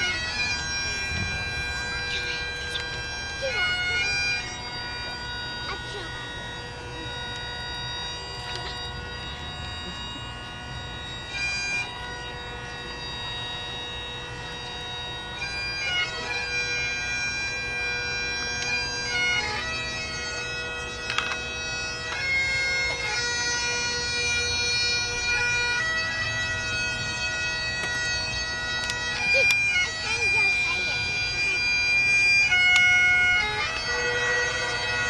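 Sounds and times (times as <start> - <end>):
bagpipes playing slow tune: 0.0 - 35.0.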